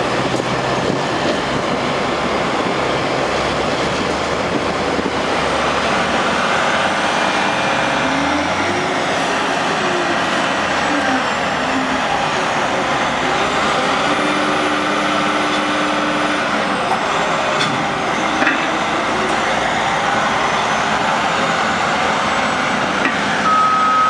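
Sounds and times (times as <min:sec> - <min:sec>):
diesel truck engines running: 0:00.0 - 0:24.0.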